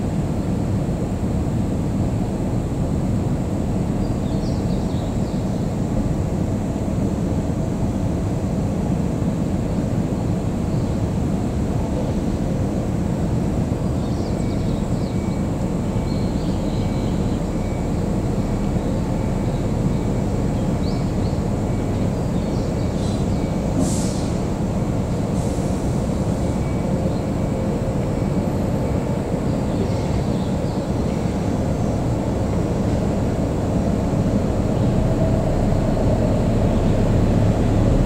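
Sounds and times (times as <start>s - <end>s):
train motors and wheels rumbling: 0.0s - 38.0s.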